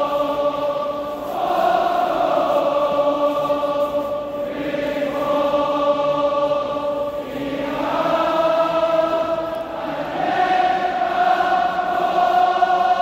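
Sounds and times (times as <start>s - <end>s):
stadium crowd singing a chant: 0.0s - 13.0s.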